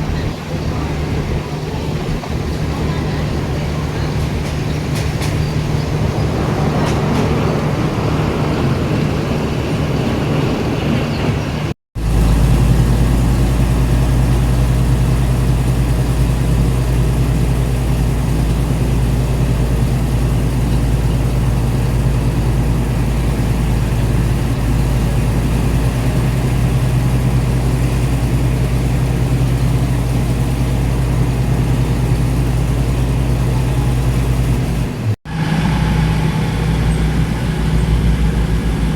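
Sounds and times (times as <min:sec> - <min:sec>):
diesel train engine drone: 0:00.0 - 0:38.9.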